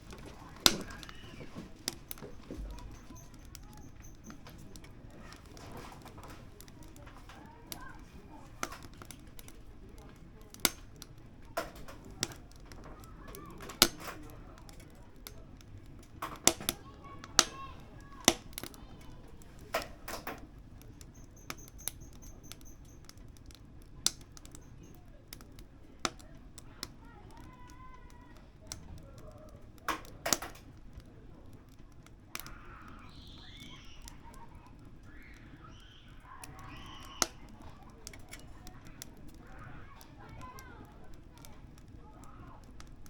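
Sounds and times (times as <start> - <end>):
firewood crackling and popping: 0.0 - 43.0
low rumble of fire: 0.0 - 43.0.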